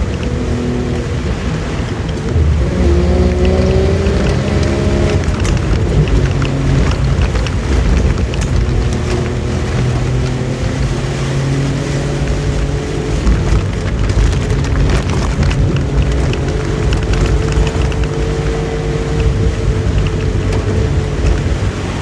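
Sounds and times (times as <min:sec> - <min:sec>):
car engine running: 0:00.0 - 0:22.0
rain hiss and spattering drops: 0:00.0 - 0:22.0.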